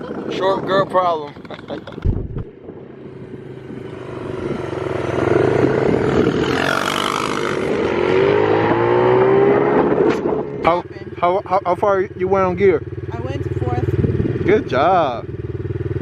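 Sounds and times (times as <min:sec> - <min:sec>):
dirt bike engine accelerating: 0:02.9 - 0:16.0.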